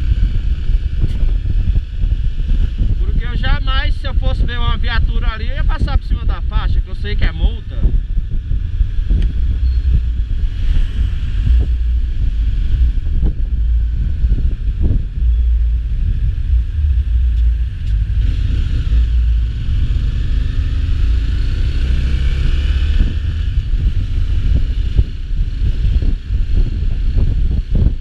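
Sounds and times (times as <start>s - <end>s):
moving vehicle rumble: 0.0s - 28.0s
wind buffeting microphone: 0.0s - 28.0s.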